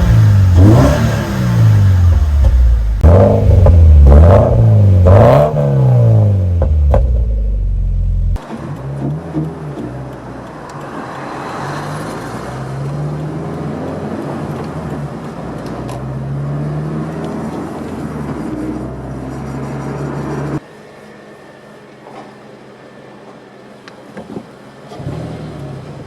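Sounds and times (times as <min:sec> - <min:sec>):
car engine revving: 0:00.0 - 0:20.6, 0:24.9 - 0:26.0
road noise: 0:00.0 - 0:26.0.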